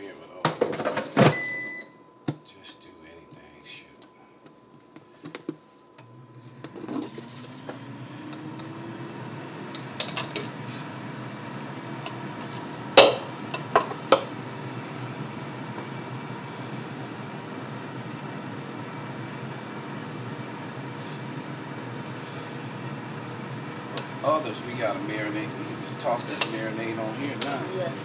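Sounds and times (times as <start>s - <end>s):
fan motor humming: 1.4s - 28.0s.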